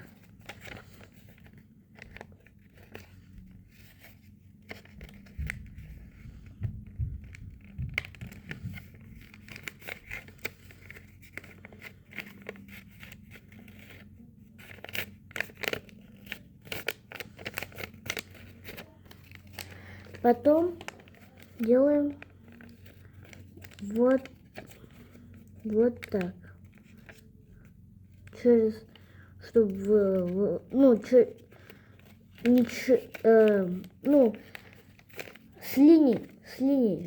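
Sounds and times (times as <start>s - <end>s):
low steady hum: 0.0s - 37.0s
paper crackling and rustling: 0.0s - 37.0s.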